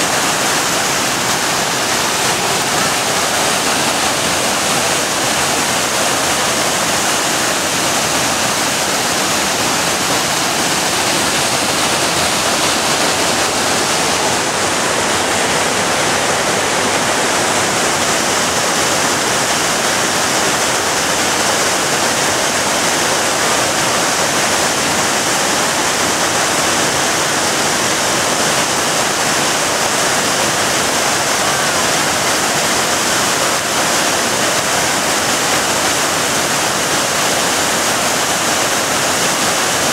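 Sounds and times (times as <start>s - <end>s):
waterfall rushing over boulders: 0.0s - 39.9s.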